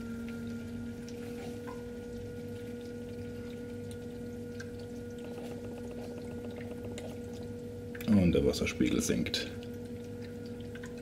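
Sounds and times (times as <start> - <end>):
water dripping and trickling: 0.0 - 11.0
water pump humming: 0.0 - 11.0.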